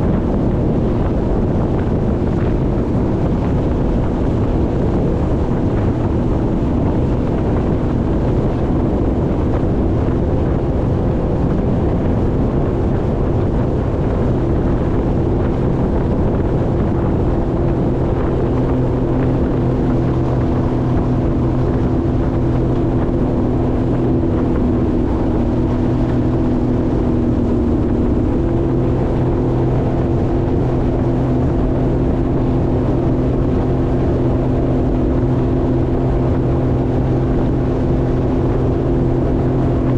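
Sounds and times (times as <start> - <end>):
jet ski engine drone: 0.0 - 39.9
water rushing: 0.0 - 39.9
wind noise on microphone: 0.0 - 39.9.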